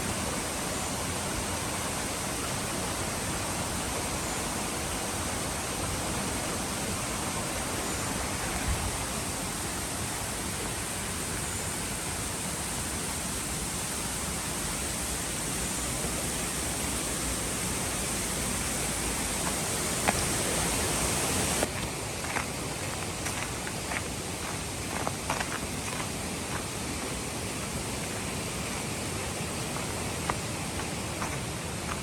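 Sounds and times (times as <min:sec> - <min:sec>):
stream rushing: 0:00.0 - 0:32.0.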